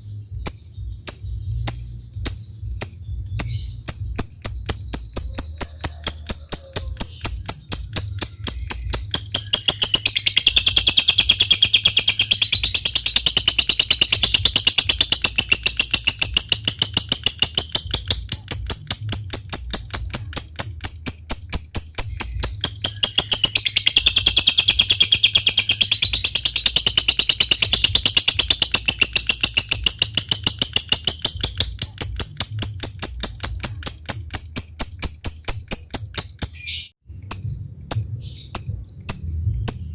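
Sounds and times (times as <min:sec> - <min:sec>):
lovebird chattering trill: 0:00.0 - 0:39.9
lovebird ticking chips: 0:00.5 - 0:39.9.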